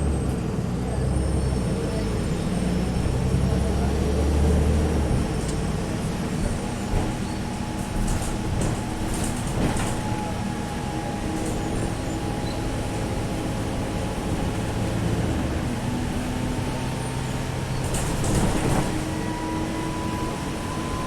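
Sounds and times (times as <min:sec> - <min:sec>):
bus engine drone: 0:00.0 - 0:21.0.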